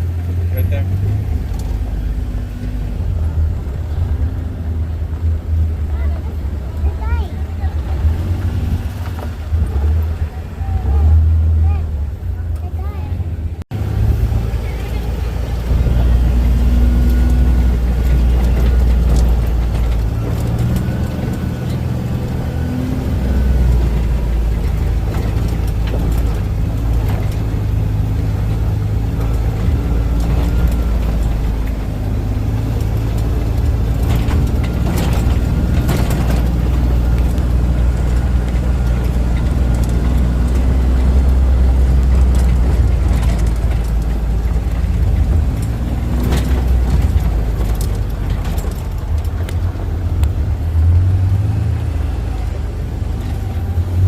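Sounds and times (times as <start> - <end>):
knocks and rattles: 0.0 - 10.5, 13.7 - 54.0
vehicle engine running: 0.0 - 54.0.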